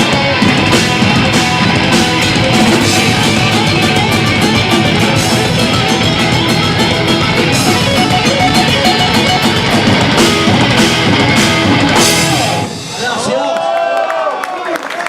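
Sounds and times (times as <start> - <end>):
rock band playing live: 0.0 - 13.3.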